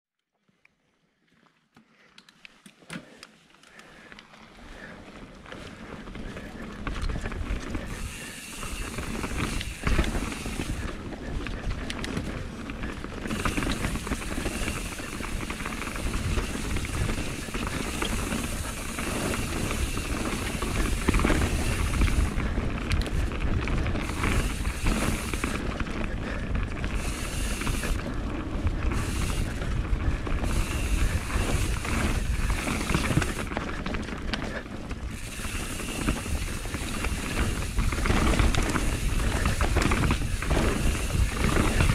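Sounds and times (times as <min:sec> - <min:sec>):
bike tyre noise on dirt: 0:00.4 - 0:41.9
bike clattering over bumps: 0:06.3 - 0:41.9.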